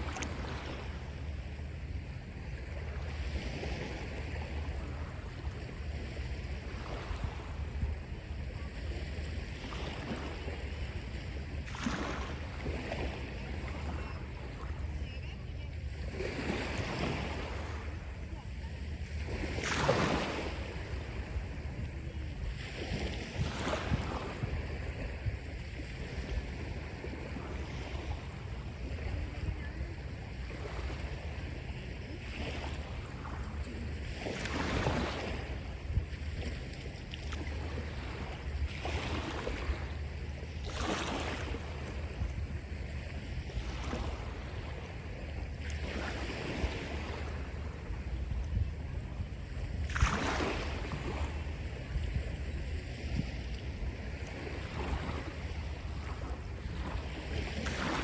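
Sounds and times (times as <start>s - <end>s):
small waves breaking on beach: 0.0s - 58.0s
wind rumble on microphone: 0.0s - 58.0s.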